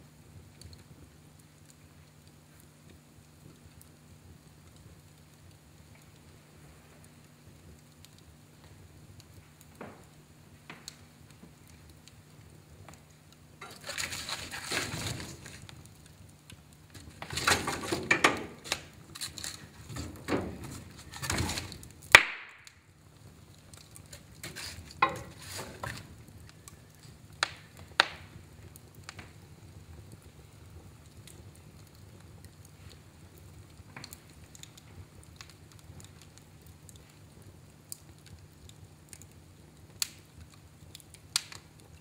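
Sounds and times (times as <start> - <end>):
wood fire crackling: 0.0 - 42.0
sharp pops and snaps: 7.1 - 42.0.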